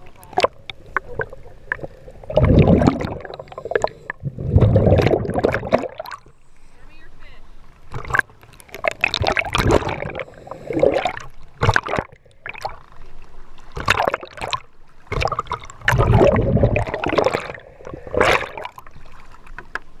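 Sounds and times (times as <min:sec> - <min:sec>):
water splashing and gurgling: 0:00.0 - 0:20.0.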